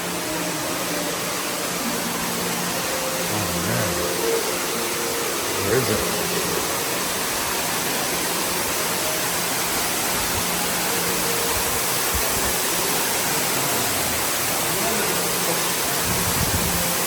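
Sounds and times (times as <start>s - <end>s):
waterfall roaring in a cave: 0.0s - 17.0s.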